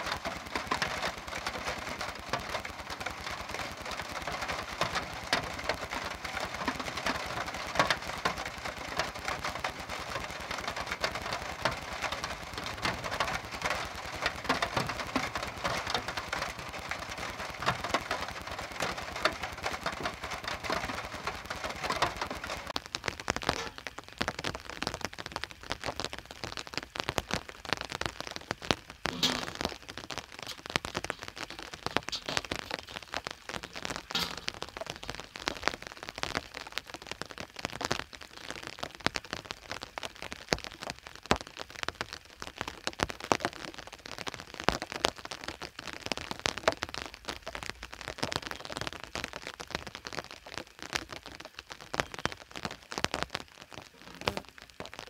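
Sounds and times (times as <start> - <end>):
rain falling: 0.0 - 55.0
scattered drips: 0.0 - 55.0.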